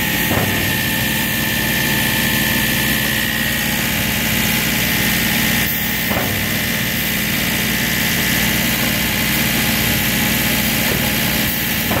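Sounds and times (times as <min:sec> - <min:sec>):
factory machinery drone and whine: 0:00.0 - 0:12.0.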